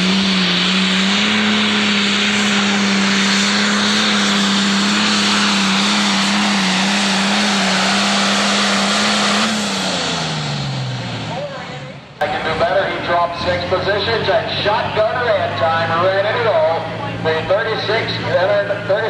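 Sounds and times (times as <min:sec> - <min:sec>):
diesel engine at full throttle: 0:00.0 - 0:19.0
exhaust and turbo rushing: 0:00.0 - 0:19.0.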